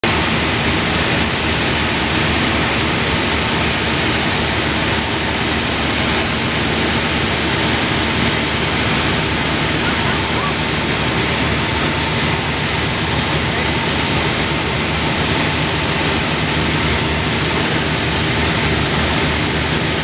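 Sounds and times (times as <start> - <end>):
airplane cabin engine drone: 0.0 - 20.0
rushing air: 0.0 - 20.0.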